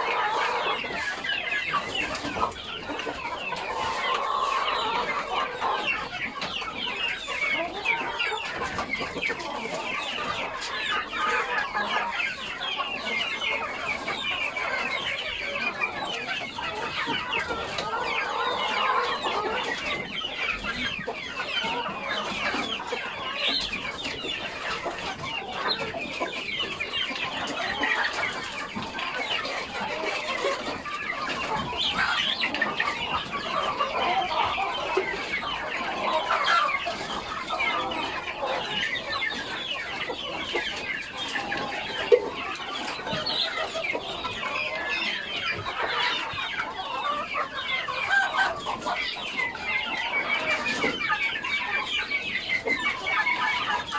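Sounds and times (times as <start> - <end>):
chickens clucking: 0.0 - 53.9.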